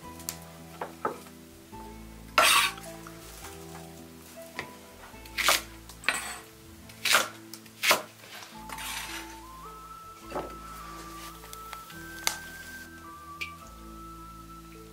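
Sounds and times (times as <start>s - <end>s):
background music with sustained notes: 0.0s - 14.9s.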